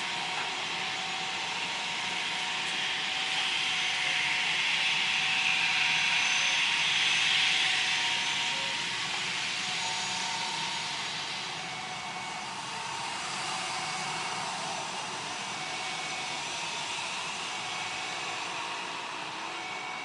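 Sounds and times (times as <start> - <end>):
jet engine rushing with whine: 0.0 - 20.0.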